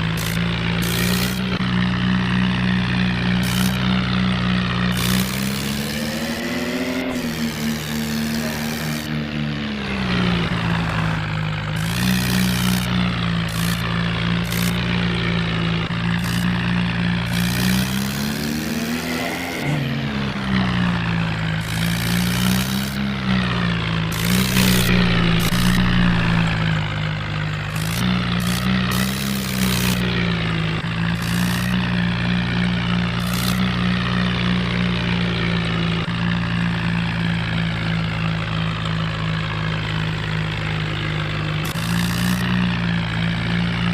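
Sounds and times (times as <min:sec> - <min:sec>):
toy tractor electronic engine drone: 0:00.0 - 0:43.9.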